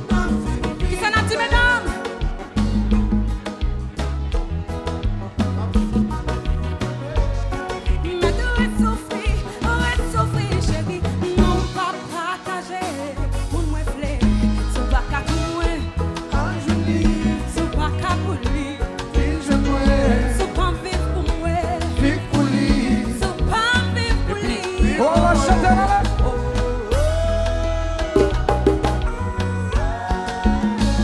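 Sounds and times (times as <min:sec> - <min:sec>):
latin dance band with singing: 0:00.0 - 0:31.0.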